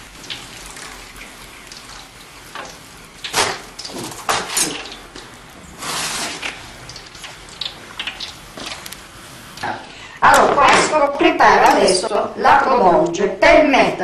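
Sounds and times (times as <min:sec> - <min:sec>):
frying oil hissing: 0:00.0 - 0:14.0.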